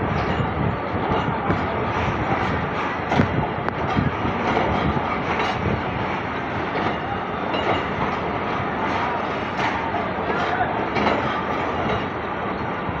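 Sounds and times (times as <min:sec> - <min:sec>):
train coaches rumbling: 0:00.0 - 0:13.0.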